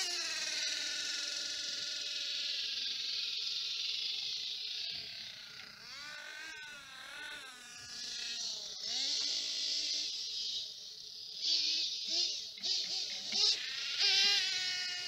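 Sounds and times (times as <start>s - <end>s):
toy truck engine revving: 0.0s - 15.0s.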